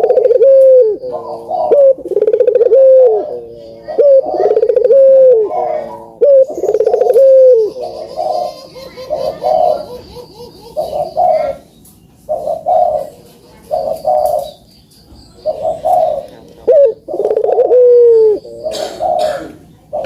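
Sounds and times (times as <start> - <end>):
doves cooing: 0.0 - 20.0.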